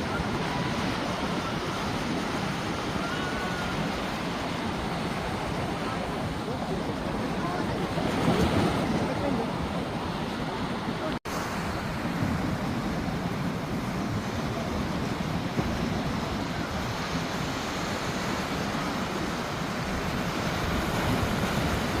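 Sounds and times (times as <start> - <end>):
sea surf washing on beach: 0.0 - 22.0.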